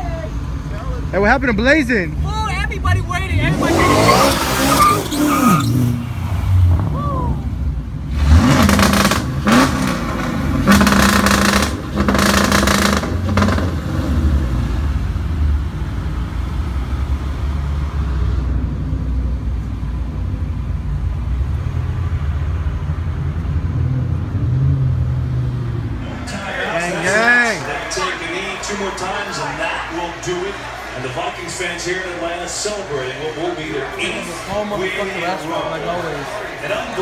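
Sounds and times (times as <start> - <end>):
cars revving and driving off: 0.0 - 37.0
loud exhaust blasts: 3.2 - 35.2.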